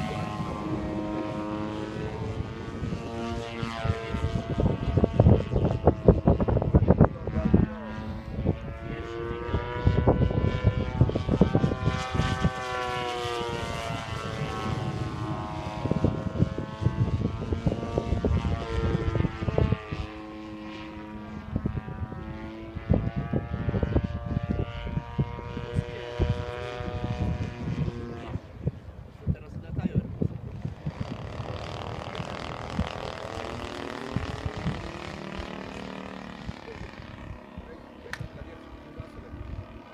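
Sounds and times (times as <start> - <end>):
model airplane engine in flight: 0.0 - 39.9.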